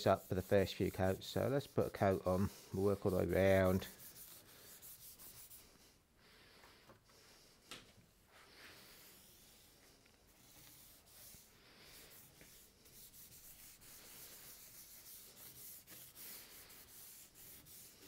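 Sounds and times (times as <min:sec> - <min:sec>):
paintbrush swishing on wood: 0:00.0 - 0:06.0, 0:08.3 - 0:18.0.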